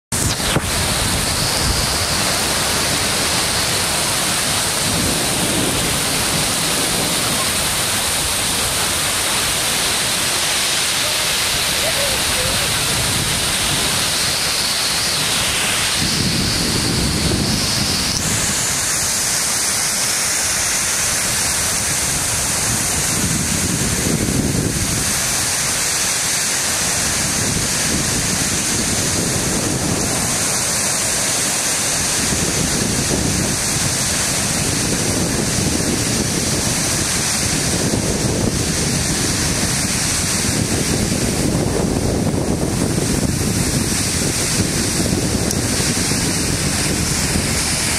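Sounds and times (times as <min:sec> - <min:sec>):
wind buffeting microphone: 0:00.1 - 0:19.7, 0:20.3 - 0:47.9
heavy rain hissing: 0:00.1 - 0:47.9.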